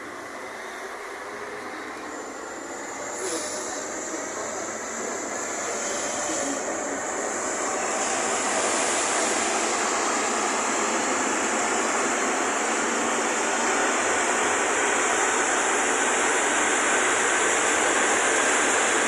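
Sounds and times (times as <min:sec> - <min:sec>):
metro train roaring in tunnel: 0:00.0 - 0:19.0.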